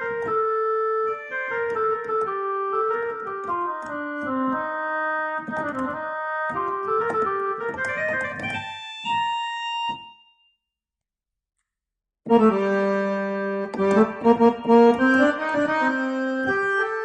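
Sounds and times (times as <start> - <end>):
keyboard playing melody: 0.0 - 10.4, 12.2 - 17.0.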